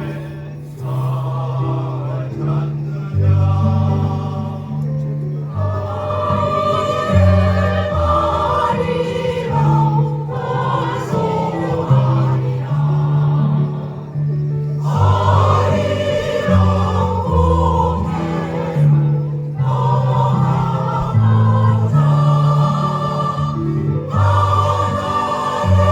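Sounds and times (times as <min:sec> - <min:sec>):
choir singing with accompaniment: 0:00.0 - 0:25.9.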